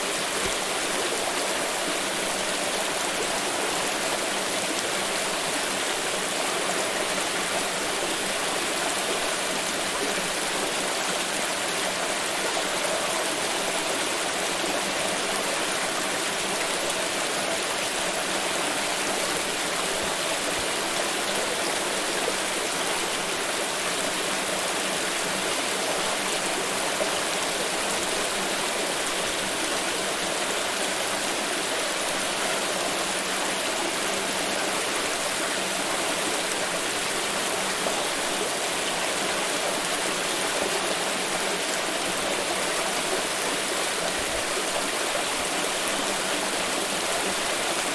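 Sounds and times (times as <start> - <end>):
stream running over stones: 0.0 - 47.9.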